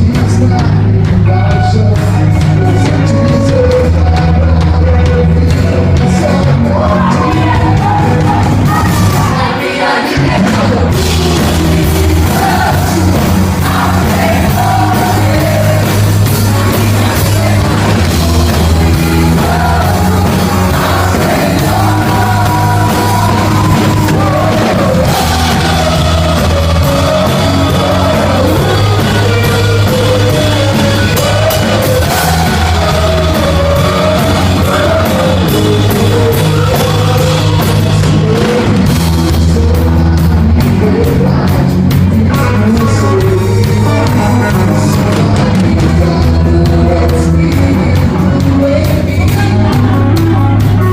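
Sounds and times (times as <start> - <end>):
person singing lead vocals: 0.0 - 50.9
rock band playing: 0.0 - 50.9.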